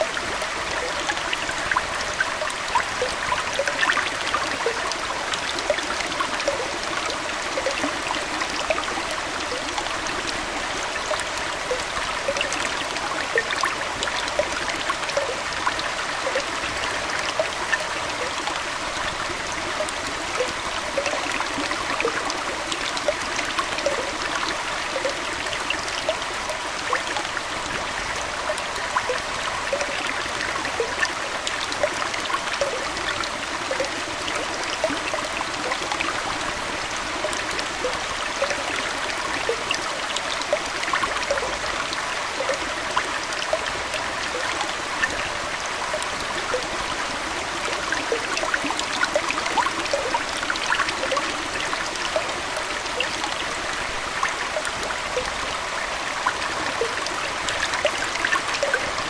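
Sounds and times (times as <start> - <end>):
aquarium water trickling: 0.0 - 59.0
water plinks and bubbling: 0.0 - 59.0.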